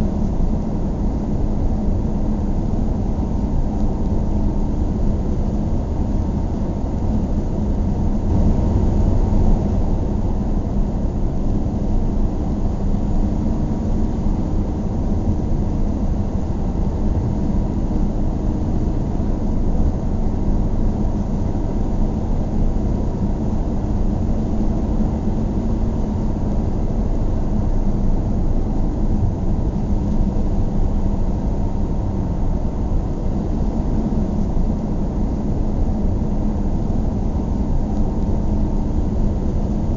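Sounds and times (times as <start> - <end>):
faint steady hum: 0.0 - 39.9
car engine and tyre rumble: 0.2 - 39.8.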